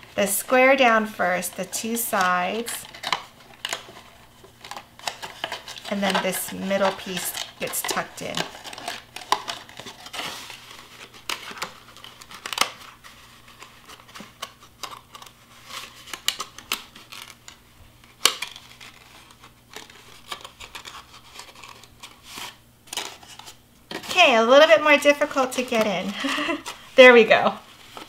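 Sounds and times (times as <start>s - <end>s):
stiff paper rustling and crinkling: 0.0s - 28.0s.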